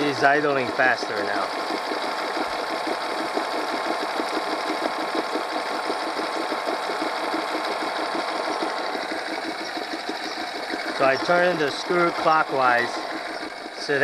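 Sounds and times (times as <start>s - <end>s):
outboard engine idling: 0.0s - 14.0s.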